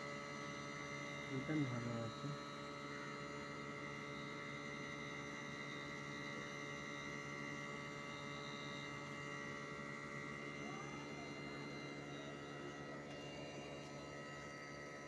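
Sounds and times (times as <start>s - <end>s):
air conditioner unit humming: 0.0s - 15.0s.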